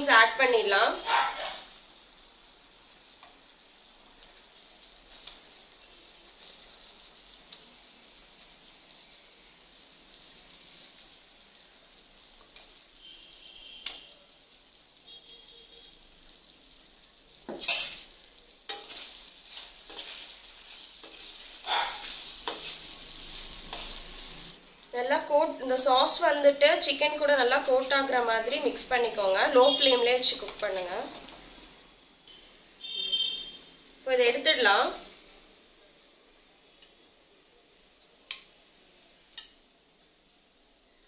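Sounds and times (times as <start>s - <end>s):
sauce sizzling in a pan: 0.0s - 41.0s.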